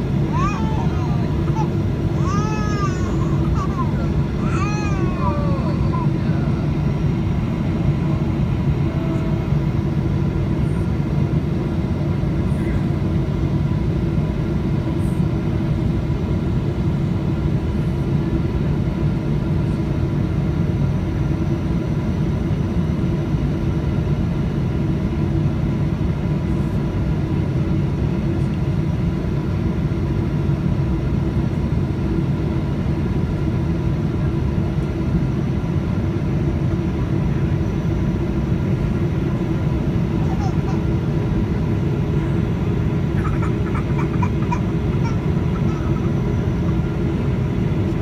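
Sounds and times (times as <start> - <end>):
airplane cabin engine drone: 0.0 - 48.0.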